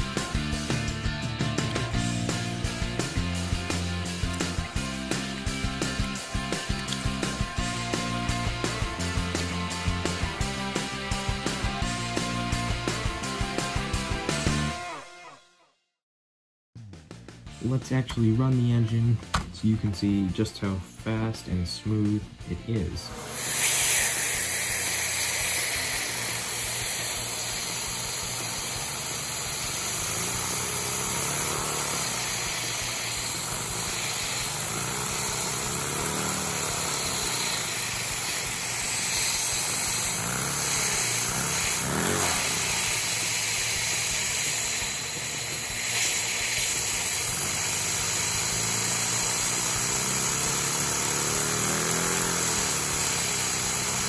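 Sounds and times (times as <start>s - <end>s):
small vacuum engine running: 0.0s - 14.7s, 23.0s - 54.0s.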